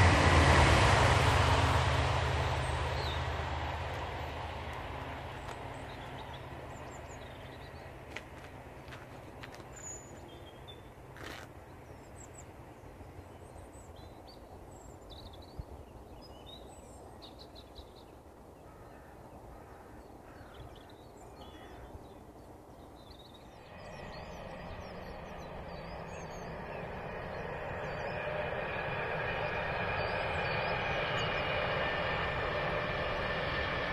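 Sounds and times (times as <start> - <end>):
electric train approaching: 0.0 - 17.3, 23.0 - 33.9
birds chirping: 1.9 - 33.9.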